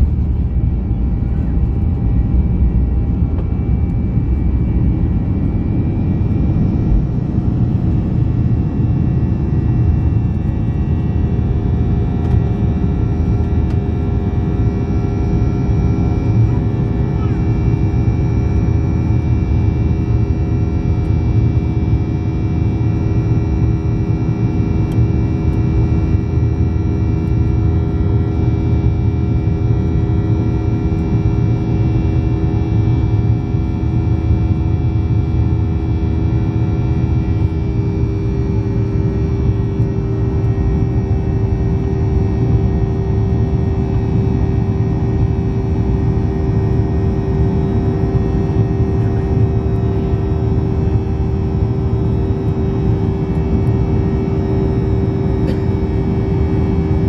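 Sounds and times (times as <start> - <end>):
jet engine roar: 0.0 - 57.0
steady held engine tones: 0.0 - 57.0.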